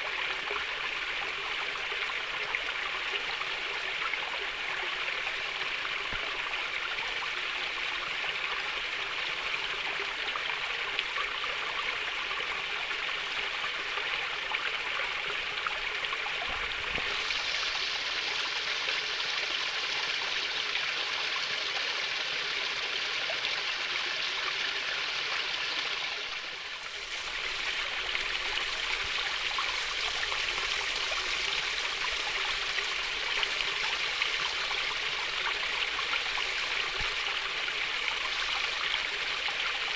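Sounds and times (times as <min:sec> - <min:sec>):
water babbling in a stream: 0:00.0 - 0:39.9.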